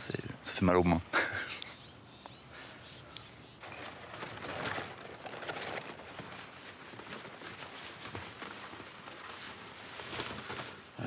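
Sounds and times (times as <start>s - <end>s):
outdoor background noise: 0.0s - 11.0s
net and vegetation rustling: 1.2s - 11.0s.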